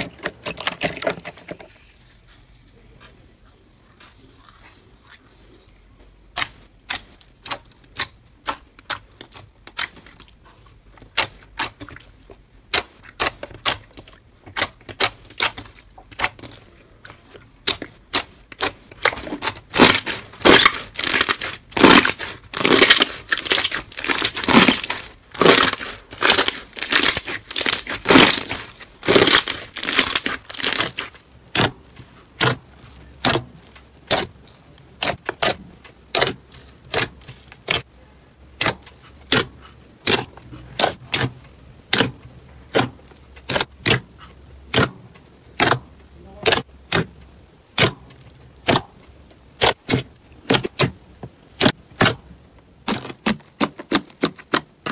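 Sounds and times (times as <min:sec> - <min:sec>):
slime popping and crackling: 0:00.0 - 0:02.7, 0:06.2 - 0:37.9, 0:38.5 - 0:54.9.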